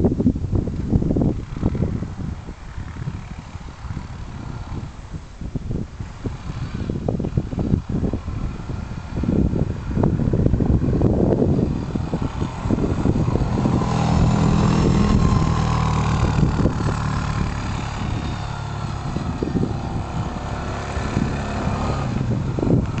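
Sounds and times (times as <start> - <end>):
wind rumble on microphone: 0.0 - 23.0
quad bike engine: 0.7 - 23.0.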